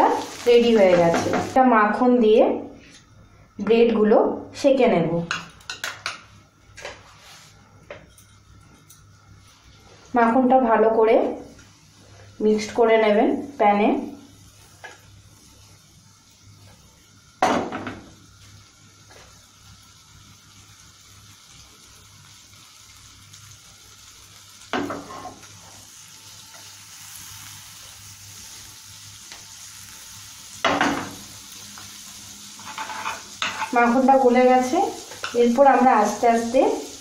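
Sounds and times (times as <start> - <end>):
butter sizzling in frying pan: 0.0 - 2.2, 8.4 - 37.0.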